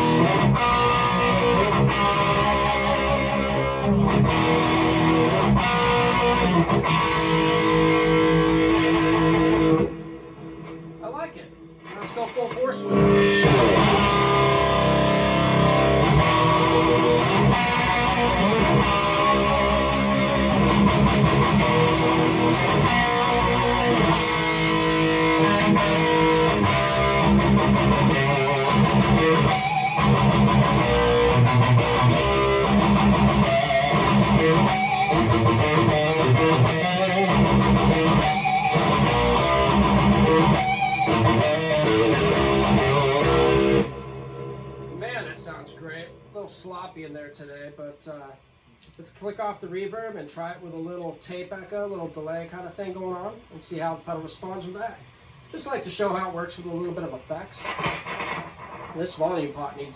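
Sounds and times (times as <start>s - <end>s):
distorted electric guitar riffs: 0.0s - 46.7s, 56.9s - 59.9s.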